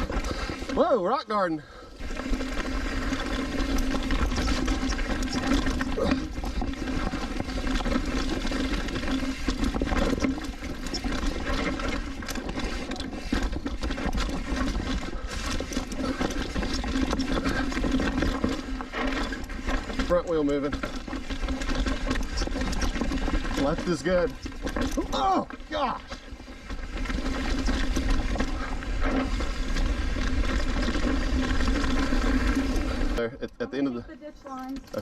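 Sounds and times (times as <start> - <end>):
bike tyres rattling over rocks: 0.0 - 35.0.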